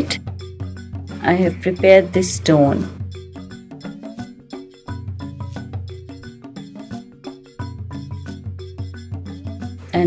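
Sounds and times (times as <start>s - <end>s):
percussive background music: 0.0s - 10.0s.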